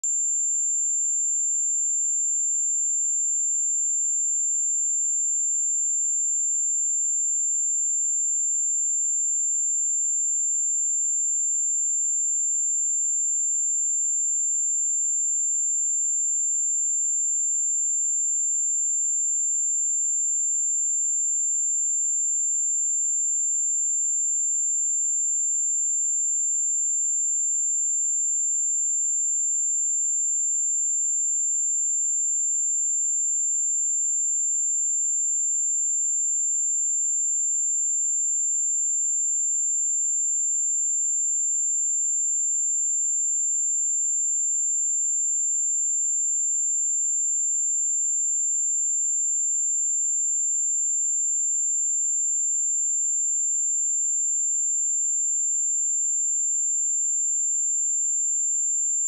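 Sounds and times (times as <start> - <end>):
high-pitched sine test tone: 0.0 - 40.3, 48.9 - 59.0.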